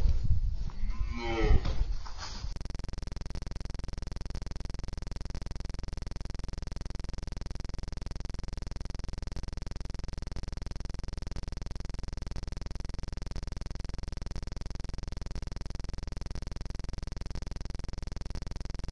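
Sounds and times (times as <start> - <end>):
pulsing buzzing drone: 2.5 - 18.9.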